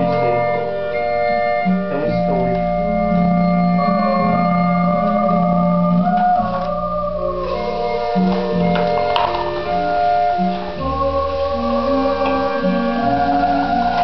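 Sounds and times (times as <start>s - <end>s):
bass line: 0.0s - 14.0s
held keyboard chords: 0.0s - 14.0s.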